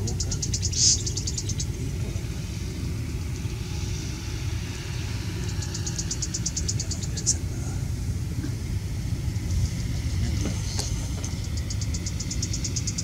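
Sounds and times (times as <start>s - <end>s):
rapid high ticking: 0.0s - 13.0s
wind buffeting the microphone: 0.0s - 13.0s.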